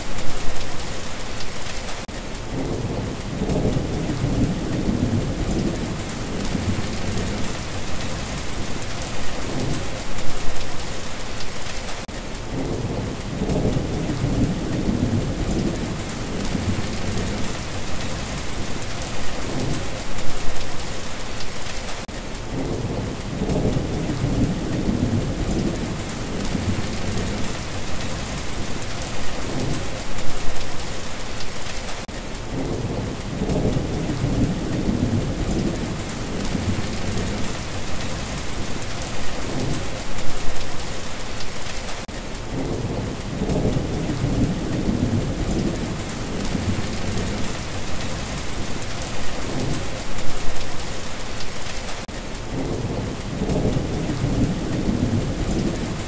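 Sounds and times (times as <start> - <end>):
heavy rain hissing: 0.0 - 56.0
thunder rumbling: 2.5 - 10.8, 12.5 - 20.8, 22.5 - 30.8, 32.5 - 40.8, 42.5 - 50.9, 52.5 - 56.0.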